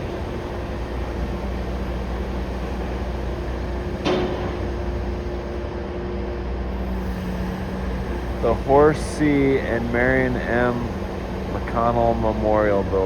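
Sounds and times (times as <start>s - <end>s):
heavy-vehicle engines rumbling: 0.0s - 13.0s.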